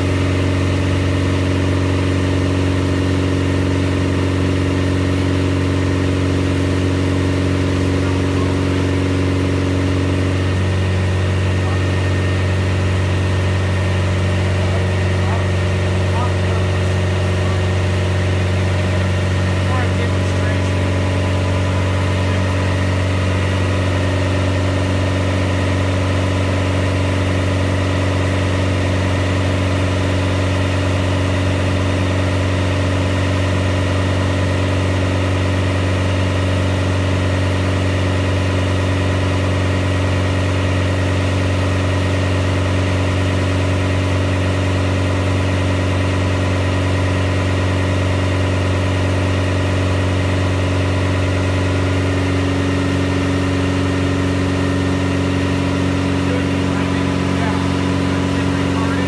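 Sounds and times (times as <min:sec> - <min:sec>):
car engine droning under load: 0:00.0 - 0:59.0.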